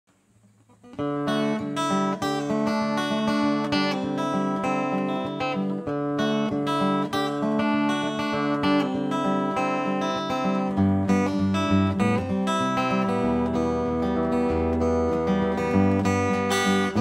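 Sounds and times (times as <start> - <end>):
strummed acoustic guitar: 0.6 - 17.0.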